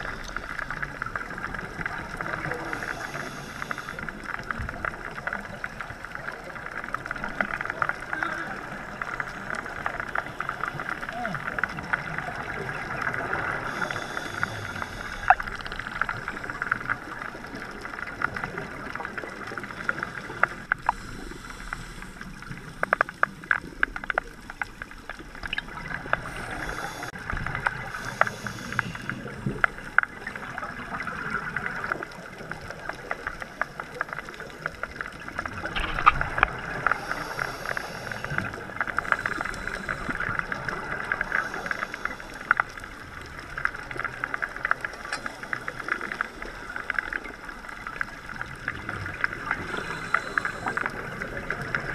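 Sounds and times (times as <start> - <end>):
muffled underwater hiss: 0.0 - 51.9
scuba breathing bubbles: 0.0 - 51.9
sharp clicks and crackles: 0.0 - 51.9.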